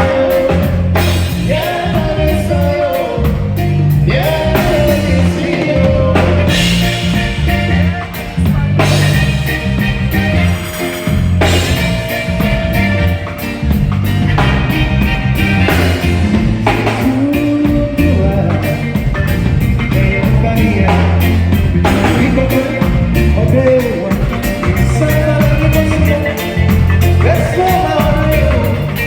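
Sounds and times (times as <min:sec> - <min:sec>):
drum kit steady beat: 0:00.0 - 0:29.0
keyboard bass line: 0:00.0 - 0:29.0.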